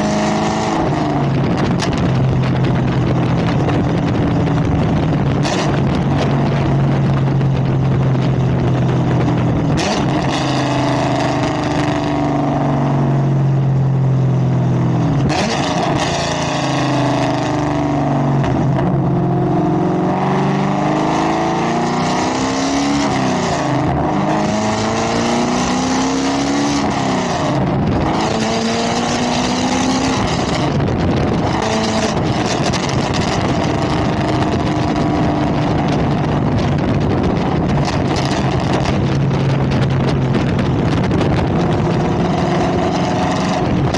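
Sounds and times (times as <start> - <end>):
loud car engine revving: 0.0 - 43.9.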